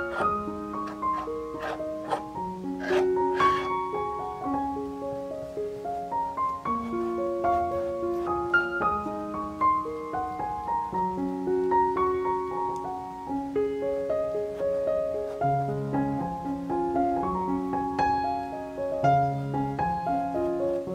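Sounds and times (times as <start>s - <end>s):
slow piano music: 0.0s - 20.9s.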